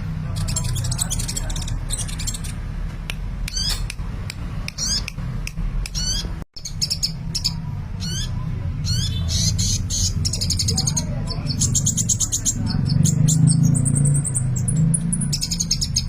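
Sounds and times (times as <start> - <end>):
bird chirping and trilling: 0.2 - 2.7, 3.4 - 4.0, 4.6 - 5.2, 5.8 - 16.0.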